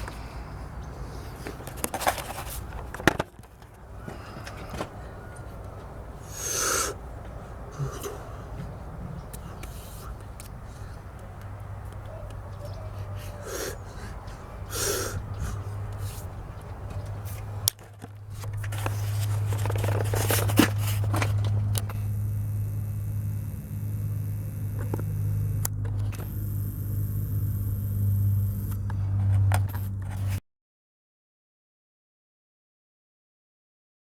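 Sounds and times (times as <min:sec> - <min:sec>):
engine running steadily: 0:00.0 - 0:30.4.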